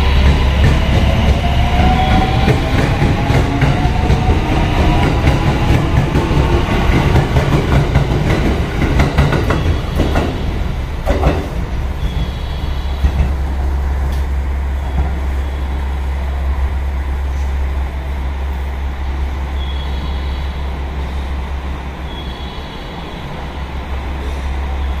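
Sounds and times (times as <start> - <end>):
train rumbling and clattering: 0.0 - 25.0.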